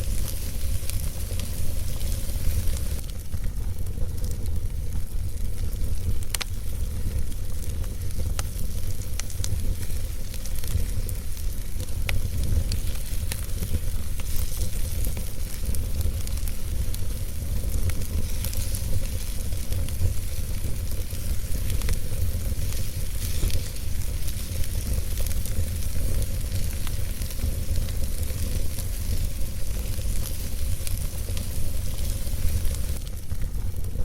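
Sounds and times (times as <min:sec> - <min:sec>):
fire rumbling and hissing: 0:00.0 - 0:34.0
logs crackling and popping: 0:00.0 - 0:34.0.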